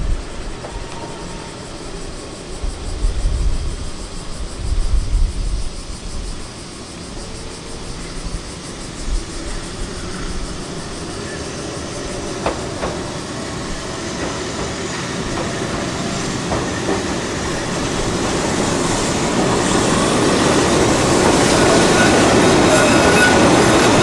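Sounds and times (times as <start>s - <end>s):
electric train rolling: 0.0s - 24.0s.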